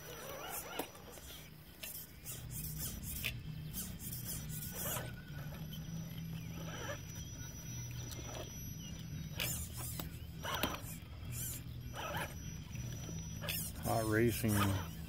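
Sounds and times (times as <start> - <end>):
electric motor whine: 0.0 - 15.0
short high squeaks: 0.0 - 15.0.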